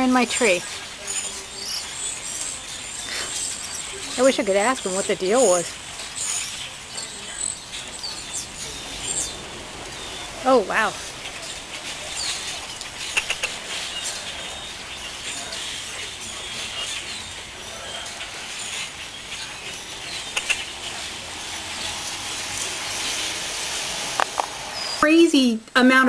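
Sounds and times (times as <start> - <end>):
flock of grackles calling: 0.0 - 25.1.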